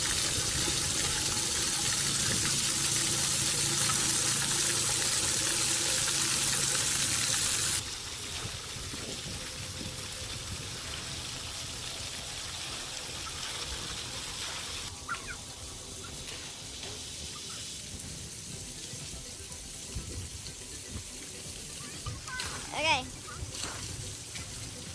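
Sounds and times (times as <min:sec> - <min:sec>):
water jets spraying: 0:00.0 - 0:24.9.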